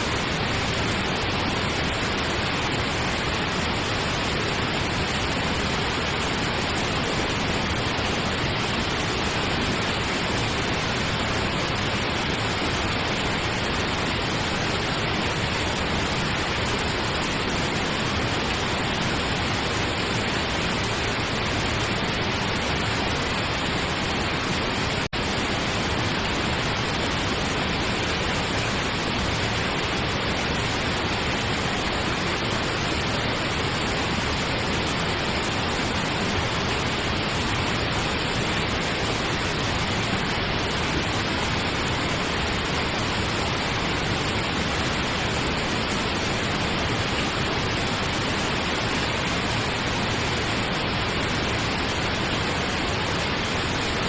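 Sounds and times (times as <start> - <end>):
steady pink noise hiss: 0.0 - 54.0.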